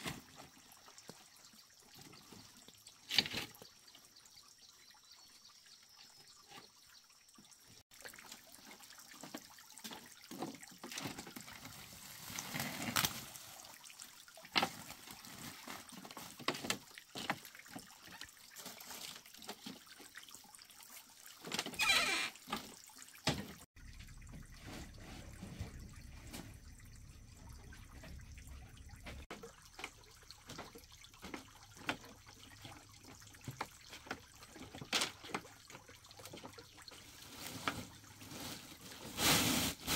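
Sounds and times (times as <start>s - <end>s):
water splashing and dripping: 0.0s - 39.9s.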